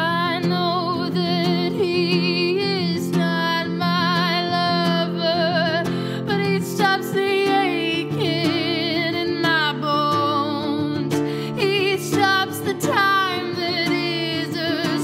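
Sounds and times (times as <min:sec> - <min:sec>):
acoustic guitar: 0:00.0 - 0:15.0
woman singing with vibrato: 0:00.0 - 0:15.0.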